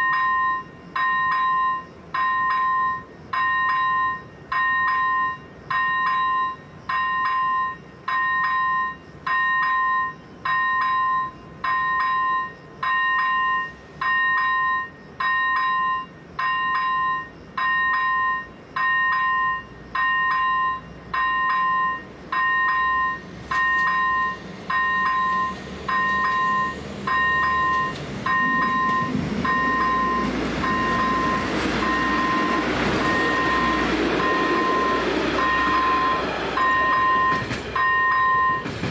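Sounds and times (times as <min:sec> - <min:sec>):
level crossing bell dinging: 0:00.0 - 0:38.7
train rumble: 0:00.0 - 0:38.9.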